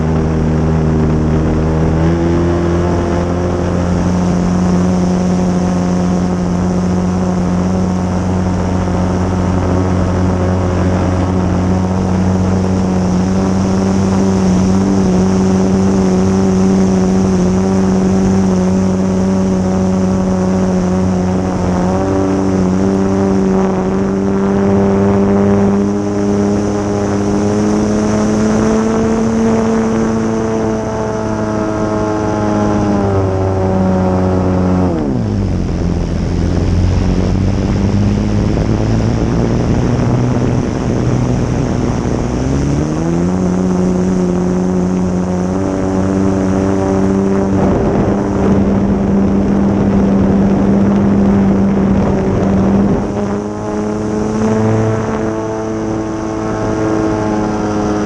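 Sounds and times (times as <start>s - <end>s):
model airplane engine running: 0.0s - 58.0s.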